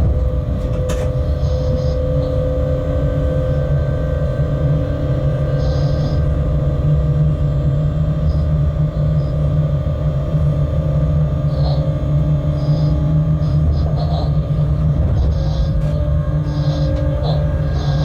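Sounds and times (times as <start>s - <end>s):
train rumble in cab: 0.0s - 18.0s.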